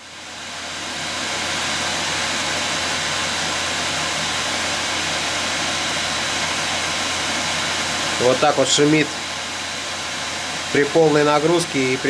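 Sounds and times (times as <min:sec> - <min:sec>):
graphics card fan rushing: 0:00.0 - 0:12.0.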